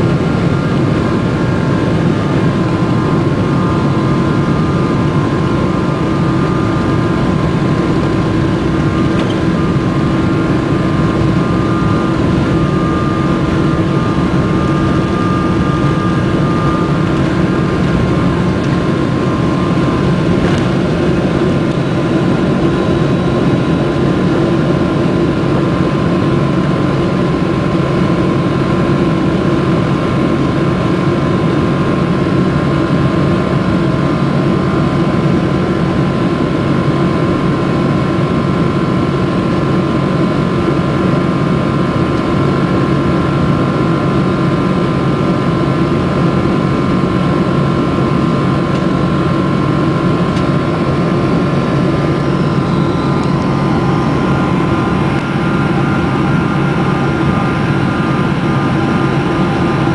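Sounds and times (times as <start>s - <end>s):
jet engine roar with fan whine: 0.0s - 59.9s.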